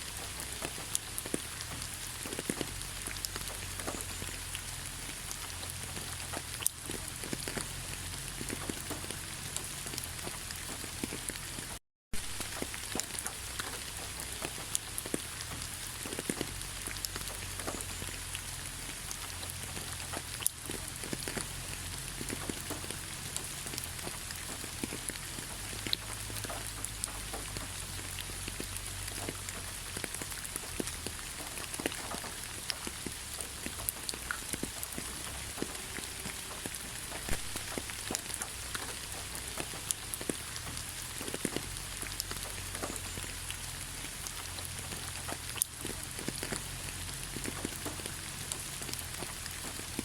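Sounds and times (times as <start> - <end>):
steady rain pattering: 0.0 - 50.0.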